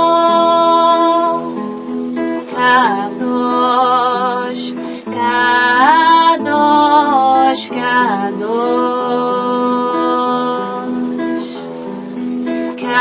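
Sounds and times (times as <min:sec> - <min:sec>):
person singing long gliding notes: 0:00.0 - 0:13.0
sustained musical accompaniment: 0:00.0 - 0:13.0.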